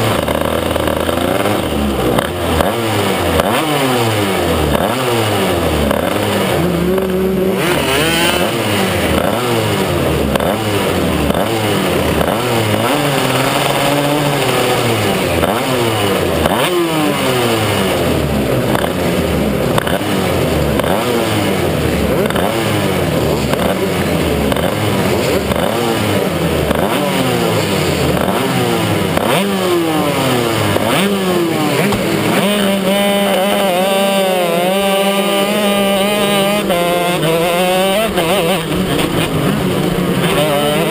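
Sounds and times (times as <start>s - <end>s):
racing kart engines revving: 0.0s - 40.9s.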